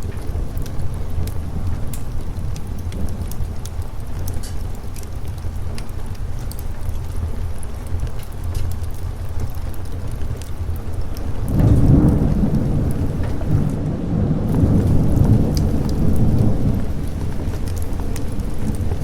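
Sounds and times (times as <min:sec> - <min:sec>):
deep rumble of thunder: 0:00.0 - 0:19.0
steady rain: 0:00.0 - 0:19.0.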